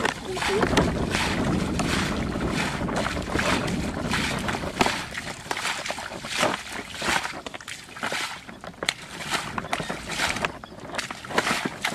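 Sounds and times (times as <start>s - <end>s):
person wading in pond water: 0.0s - 11.9s
sharp water splashes: 0.0s - 11.9s.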